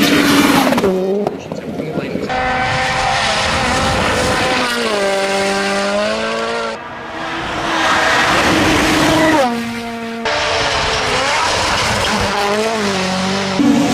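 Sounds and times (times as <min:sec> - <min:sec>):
car engines revving: 0:00.0 - 0:13.9.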